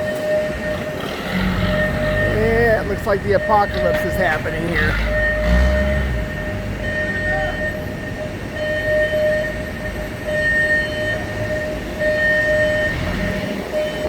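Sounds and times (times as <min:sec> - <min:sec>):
electronic warning tone beeping: 0:00.0 - 0:14.0.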